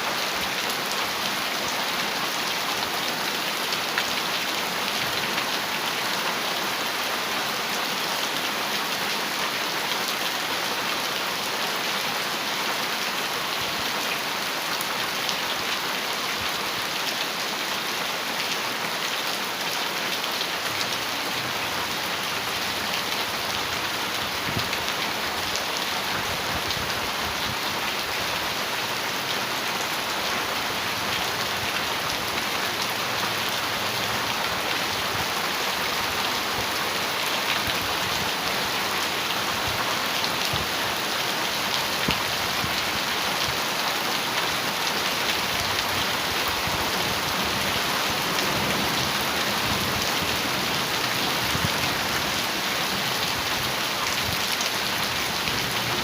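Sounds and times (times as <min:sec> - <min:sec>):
heavy rain on a metal roof: 0:00.0 - 0:56.0.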